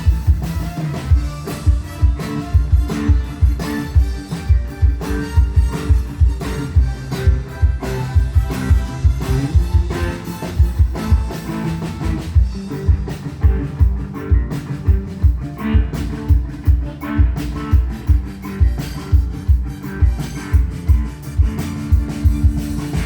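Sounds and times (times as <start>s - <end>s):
guitar: 0.0s - 23.0s
low drum beat: 0.0s - 23.0s.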